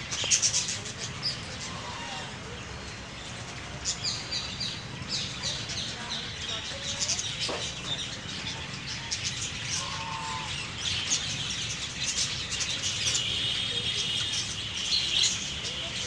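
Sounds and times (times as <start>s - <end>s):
budgerigars chirping and chattering: 0.0s - 16.0s.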